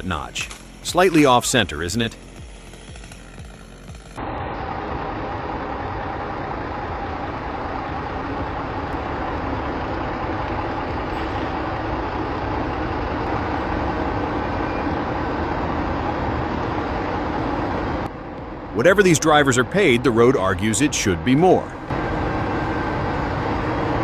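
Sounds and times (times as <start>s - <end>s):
heavy vehicle engine running: 2.4s - 24.0s.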